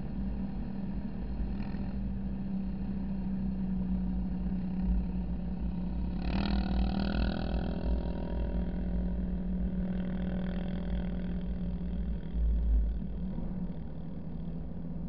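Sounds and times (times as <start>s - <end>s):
higher engine sound: 0.0s - 15.0s
vehicle driving on sand: 0.0s - 15.0s.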